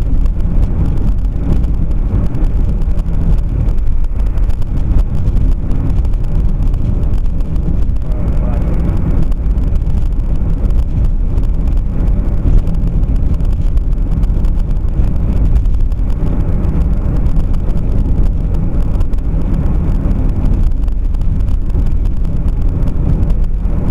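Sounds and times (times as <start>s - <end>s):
road traffic rumble: 0.0s - 23.9s
wind buffeting microphone: 0.0s - 23.9s.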